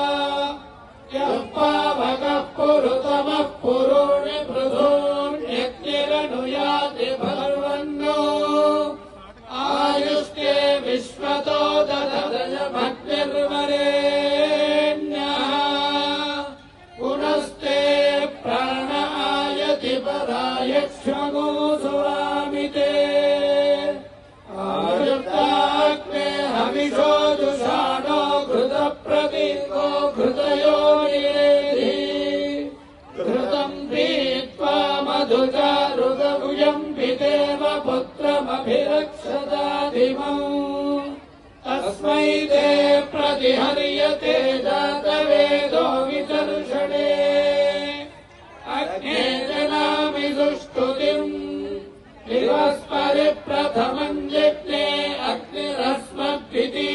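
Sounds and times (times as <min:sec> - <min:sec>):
men chanting: 0:00.0 - 0:56.9.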